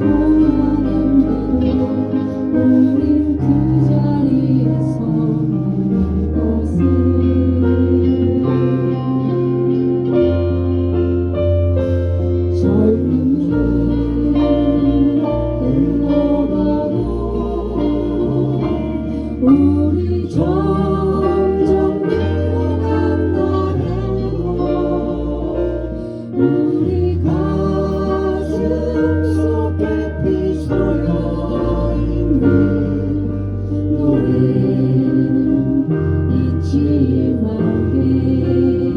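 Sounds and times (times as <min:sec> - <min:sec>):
bass line: 0:00.0 - 0:38.9
live band with singer: 0:00.0 - 0:38.9.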